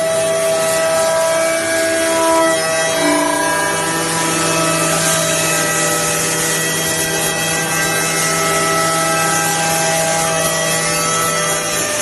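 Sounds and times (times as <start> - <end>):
machine spindle hum and whine: 0.0 - 12.0.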